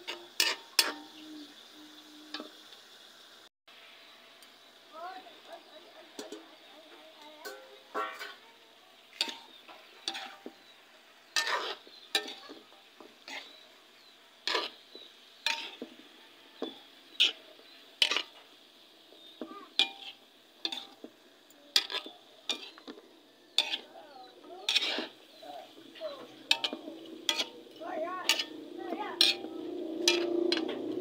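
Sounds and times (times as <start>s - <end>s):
metal spatula scraping wok: 0.0s - 1.2s, 6.1s - 31.0s
faint sizzle: 0.0s - 31.0s.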